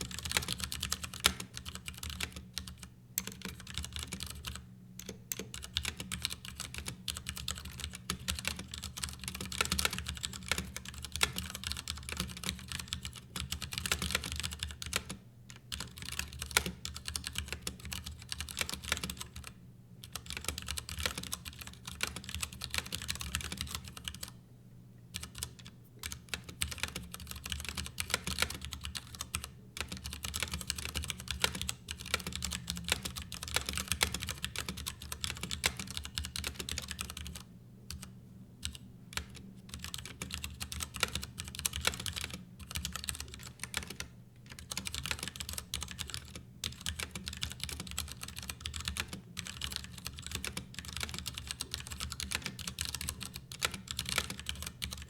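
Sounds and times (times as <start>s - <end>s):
mechanical keyboard typing: 0.0s - 24.3s, 25.2s - 55.0s.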